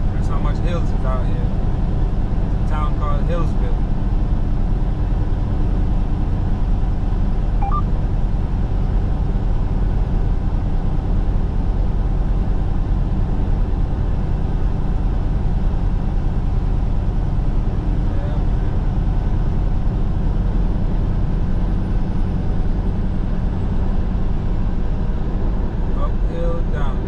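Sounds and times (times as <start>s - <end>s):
road noise: 0.0s - 27.0s
truck engine drone: 0.0s - 27.0s.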